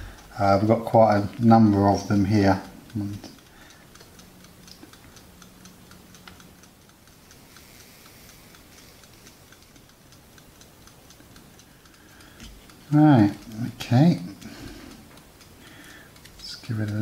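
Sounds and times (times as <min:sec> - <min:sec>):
fast clock ticking: 0:00.0 - 0:17.0.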